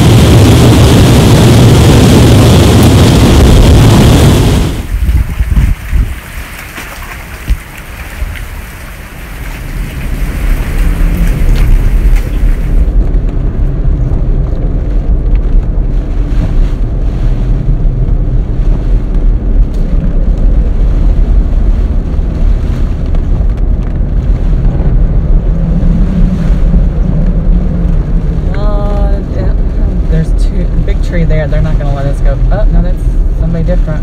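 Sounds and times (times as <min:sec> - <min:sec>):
vehicle interior rumble: 0:00.0 - 0:34.0
wind buffeting microphone: 0:00.0 - 0:34.0.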